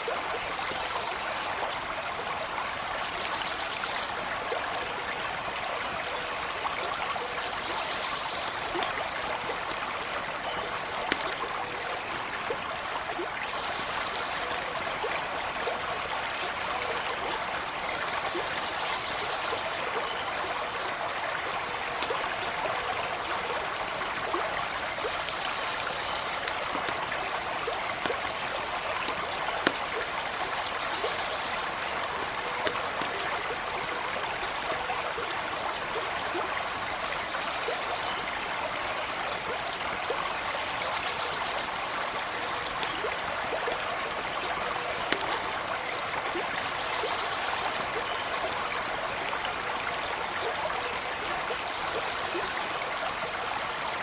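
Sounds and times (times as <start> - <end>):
small stream babbling: 0.0 - 54.0
campfire crackling: 0.1 - 53.8.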